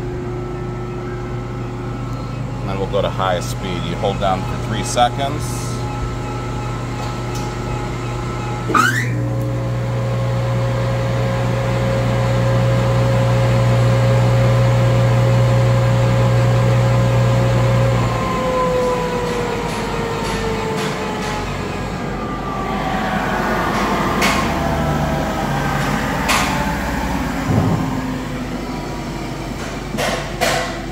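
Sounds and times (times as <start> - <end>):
machine winding down: 1.4 - 29.7.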